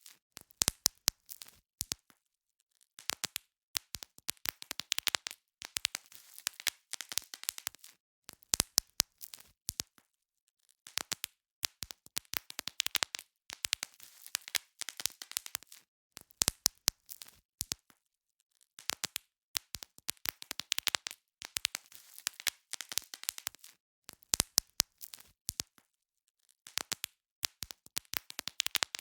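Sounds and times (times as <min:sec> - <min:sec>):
bubble wrap popping: 0:03.0 - 0:10.0, 0:10.9 - 0:18.0, 0:18.8 - 0:25.9, 0:26.6 - 0:29.0.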